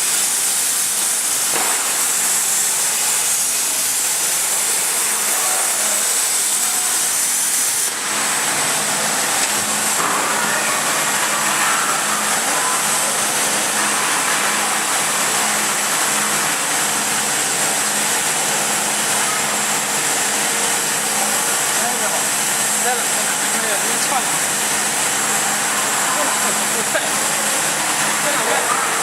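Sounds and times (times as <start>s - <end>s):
plasma cutting torch hissing: 0.0s - 29.0s.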